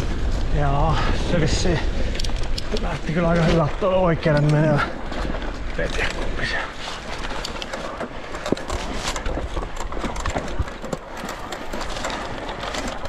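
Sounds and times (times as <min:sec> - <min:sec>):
bike rattling: 0:00.0 - 0:13.0
bike tyres rolling on trail: 0:00.0 - 0:13.0.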